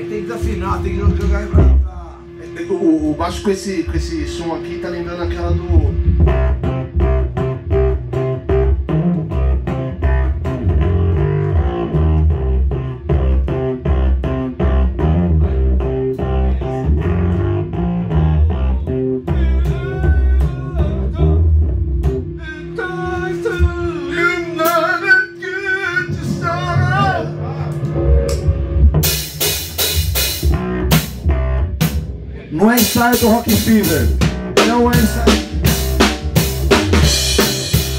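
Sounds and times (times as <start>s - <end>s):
bass guitar: 0.0s - 37.9s
electric guitar riff: 5.2s - 37.9s.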